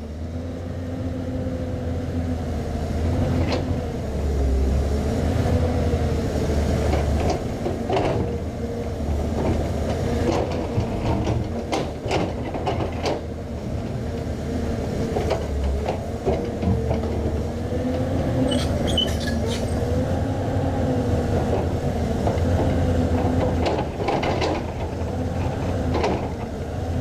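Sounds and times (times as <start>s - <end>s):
excavator diesel engine drone: 0.0s - 27.0s.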